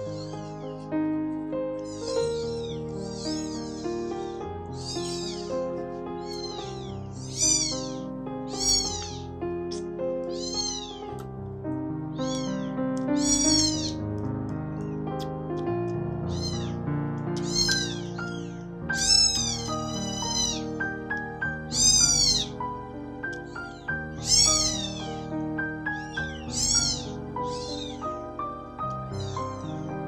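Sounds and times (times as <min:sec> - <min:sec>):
kittens mewing: 0:00.0 - 0:00.9, 0:01.8 - 0:11.3, 0:12.1 - 0:14.0, 0:14.6 - 0:15.4, 0:16.2 - 0:30.0
background music: 0:00.0 - 0:30.0.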